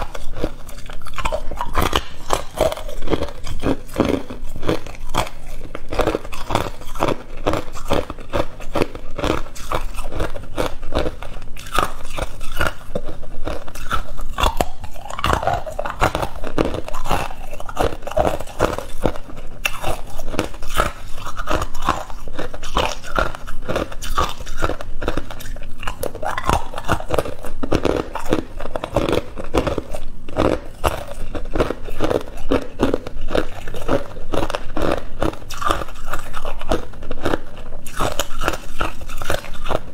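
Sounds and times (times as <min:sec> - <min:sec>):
ice cubes being chewed: 0:00.0 - 0:39.9.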